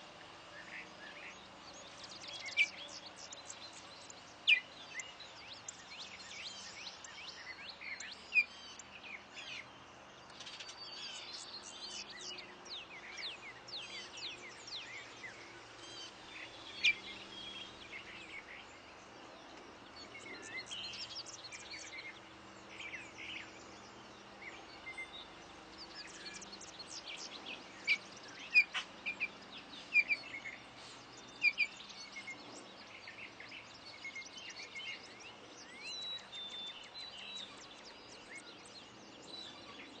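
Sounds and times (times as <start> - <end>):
faint background noise: 0.0 - 40.0
songbirds chirping: 0.0 - 40.0.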